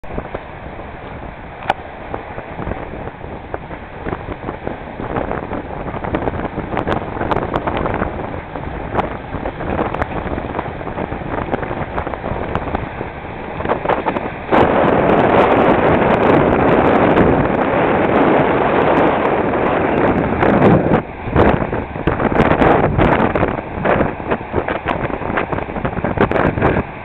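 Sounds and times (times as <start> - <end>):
water splashing against hulls: 0.0 - 27.0
wind buffeting microphone: 0.0 - 27.0.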